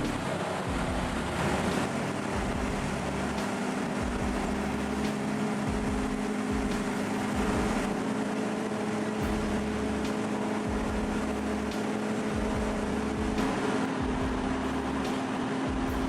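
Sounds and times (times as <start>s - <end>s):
tree chipper running: 0.0s - 16.0s.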